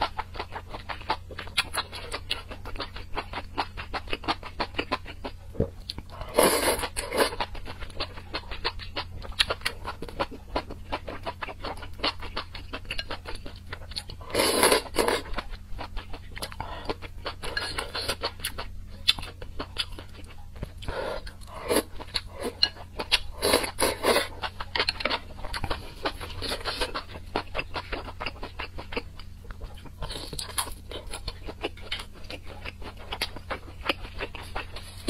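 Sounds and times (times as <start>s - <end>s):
wet chewing and smacking: 0.0s - 35.0s.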